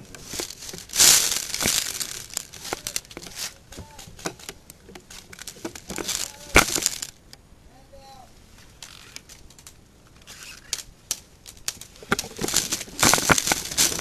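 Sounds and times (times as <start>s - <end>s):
close rustling and crinkling: 0.0s - 7.2s, 8.6s - 14.0s.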